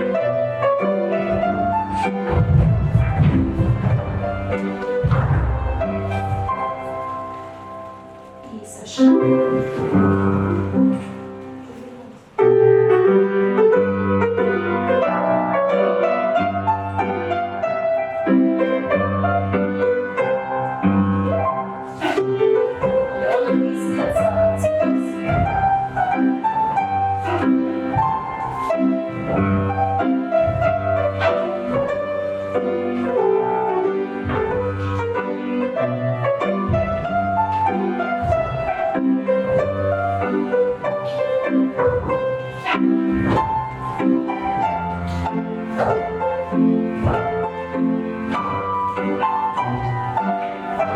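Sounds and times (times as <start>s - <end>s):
piano music with steady beat: 0.0s - 50.9s.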